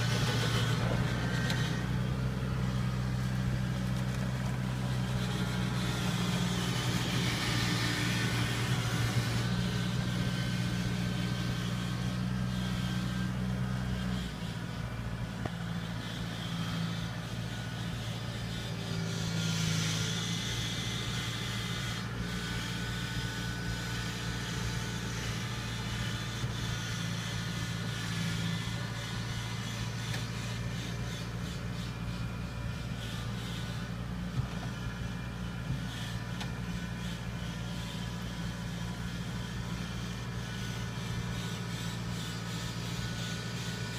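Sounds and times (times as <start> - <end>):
harvester diesel engine running: 0.0 - 43.9.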